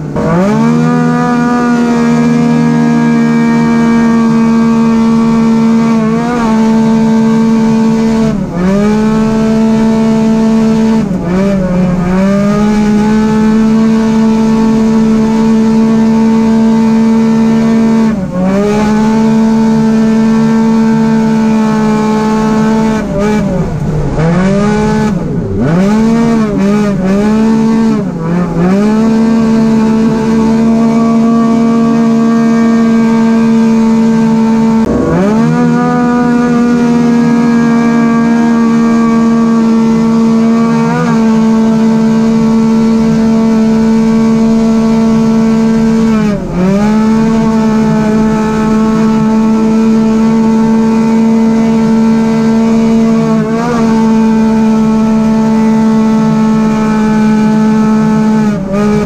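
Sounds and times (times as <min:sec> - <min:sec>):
race car engine revving high: 0:00.0 - 0:59.0.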